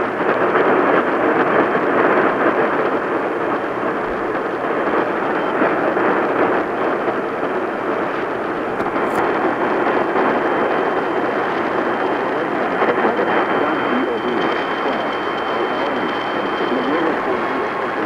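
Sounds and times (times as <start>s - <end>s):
radio static hiss: 2.0s - 18.0s.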